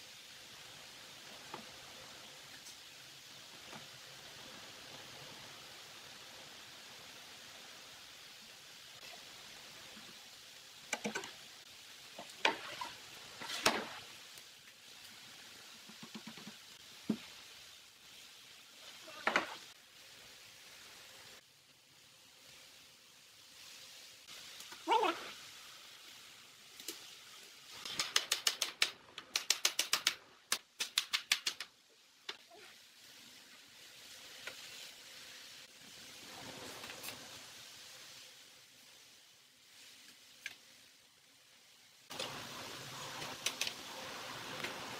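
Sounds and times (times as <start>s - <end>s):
steady hiss: 0.0s - 44.9s.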